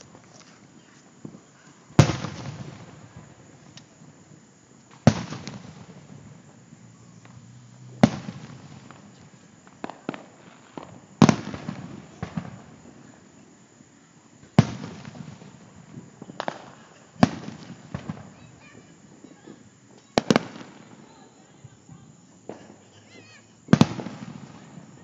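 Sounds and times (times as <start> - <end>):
firework booms with echo: 0.0 - 13.4, 14.4 - 25.0
small firework pops: 0.0 - 13.5, 14.4 - 25.0.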